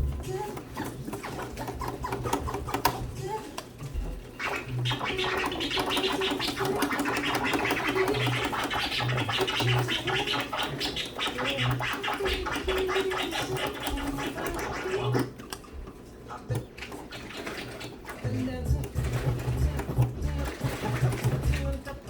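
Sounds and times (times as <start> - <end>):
music: 0.0 - 15.3, 17.8 - 22.0
record scratching: 0.0 - 15.4, 16.2 - 22.0.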